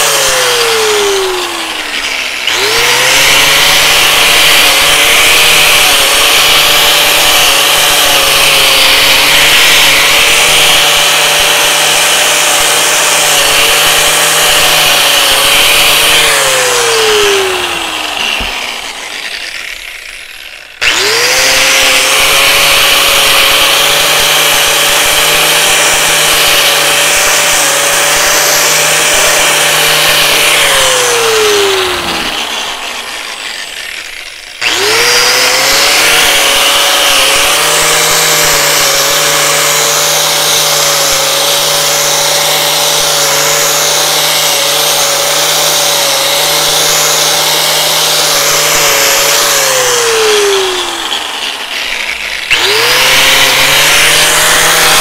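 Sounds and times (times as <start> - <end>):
angle grinder sanding metal: 0.0 - 55.0.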